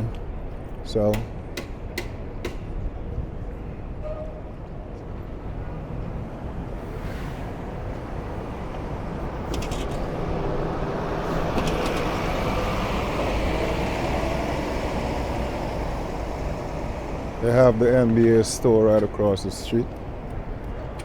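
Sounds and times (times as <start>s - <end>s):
cars and buses passing: 0.0s - 21.0s.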